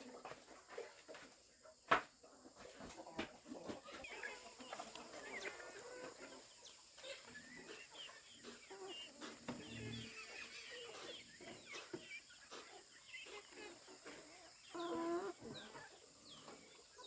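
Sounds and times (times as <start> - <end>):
chickens chirping: 0.0 - 17.0.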